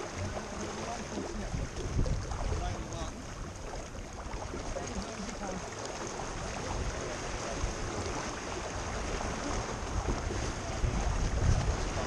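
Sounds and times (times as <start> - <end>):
wind buffeting microphone: 0.0 - 5.6, 6.2 - 12.0
water rushing along hull: 0.0 - 12.0.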